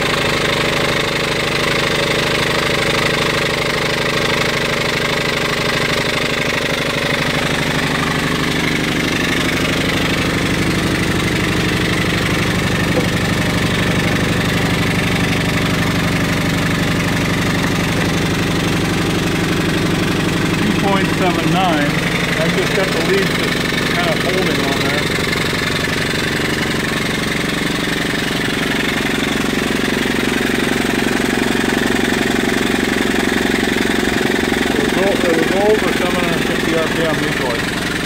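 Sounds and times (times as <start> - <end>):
steam engine running: 0.0 - 38.0.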